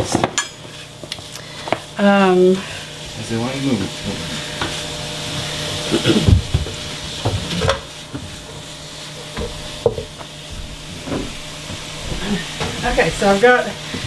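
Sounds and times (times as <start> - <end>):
sausage sizzling in a skillet: 0.1 - 14.0.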